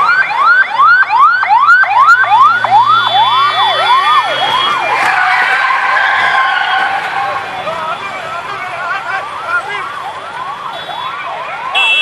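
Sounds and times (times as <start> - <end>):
ambulance siren yelping: 0.0 - 12.0.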